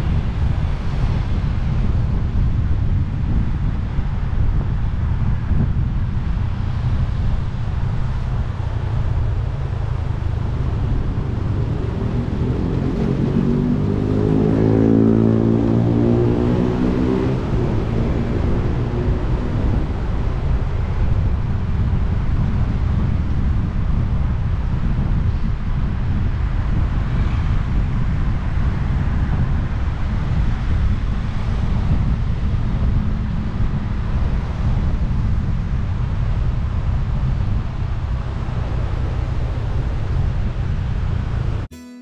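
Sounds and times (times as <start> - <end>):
low road rumble: 0.0 - 41.7
wind on microphone: 0.0 - 41.7
vehicle engine drone: 0.0 - 42.0.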